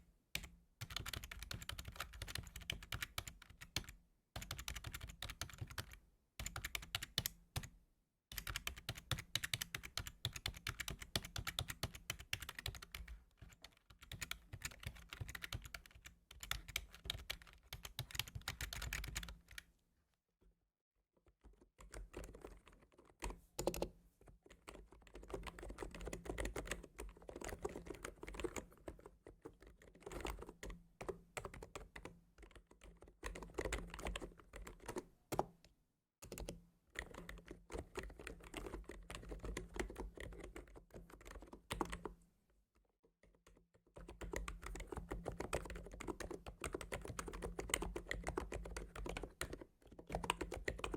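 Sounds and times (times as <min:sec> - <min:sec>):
fast typing on keyboard: 0:00.4 - 0:07.7, 0:08.3 - 0:19.6, 0:21.4 - 0:23.9, 0:24.5 - 0:35.5, 0:36.2 - 0:42.2, 0:43.4 - 0:50.9.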